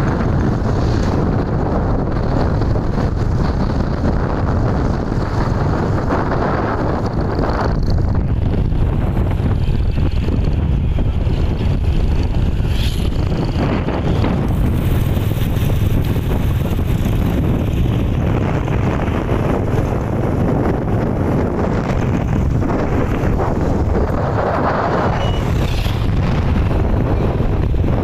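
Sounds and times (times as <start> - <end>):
road noise: 0.0 - 28.0
vehicle running: 0.0 - 28.0
wind rushing over microphone: 0.0 - 28.0.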